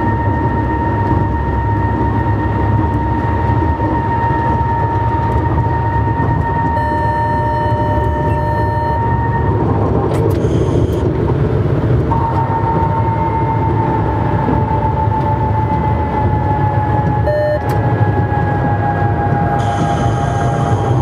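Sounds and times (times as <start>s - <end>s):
train low rumble: 0.0s - 21.0s
train whine: 0.0s - 21.0s.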